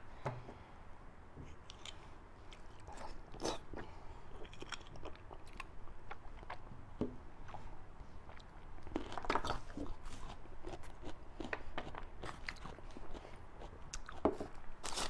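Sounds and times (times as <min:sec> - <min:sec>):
person chewing meat and bone: 0:01.7 - 0:06.6, 0:07.4 - 0:14.6.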